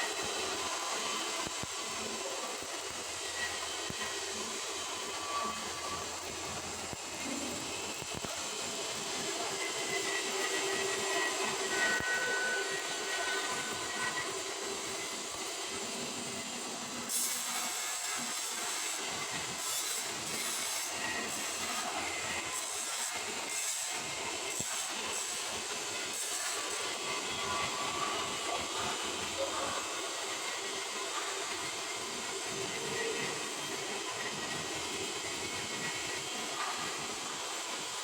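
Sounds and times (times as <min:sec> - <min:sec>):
arc welding crackling hiss: 0:00.0 - 0:38.0.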